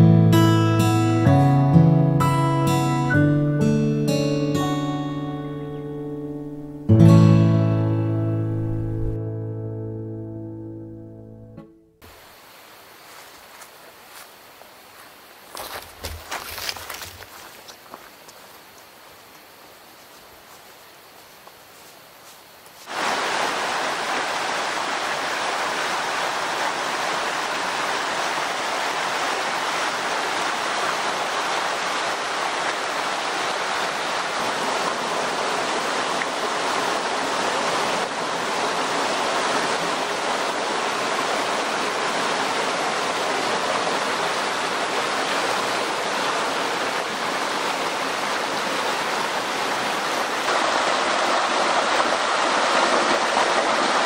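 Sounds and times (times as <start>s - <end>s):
stream water rushing: 0.0s - 10.8s, 12.0s - 54.0s.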